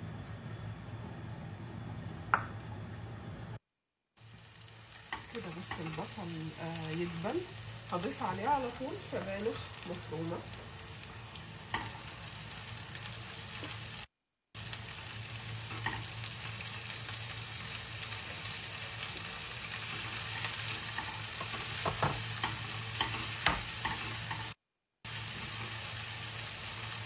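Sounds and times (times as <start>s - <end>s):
vegetables sizzling in a frying pan: 4.2s - 27.0s.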